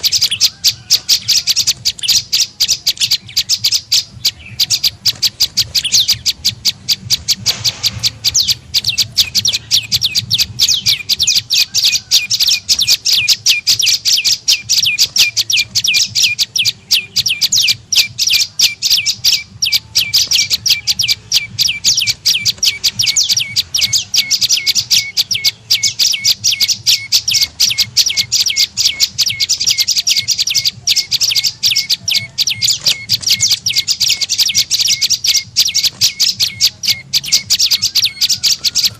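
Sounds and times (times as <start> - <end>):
small bird chirping rapidly: 0.0 - 38.9.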